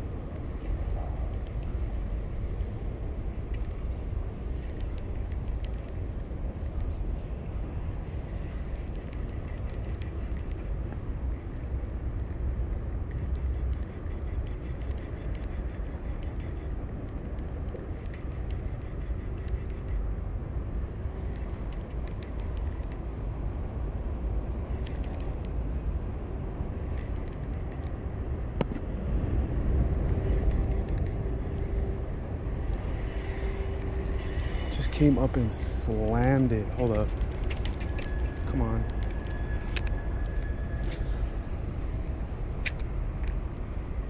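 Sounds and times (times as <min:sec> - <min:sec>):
wind on microphone: 0:00.0 - 0:44.0.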